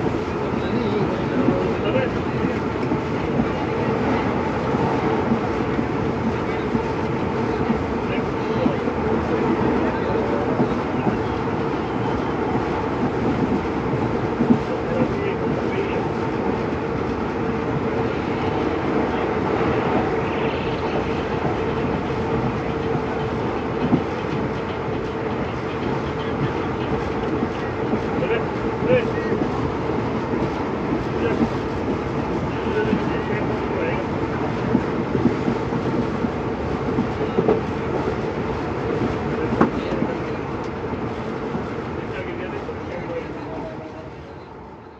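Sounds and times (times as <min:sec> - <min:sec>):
diesel train rumbling: 0:00.0 - 0:44.9.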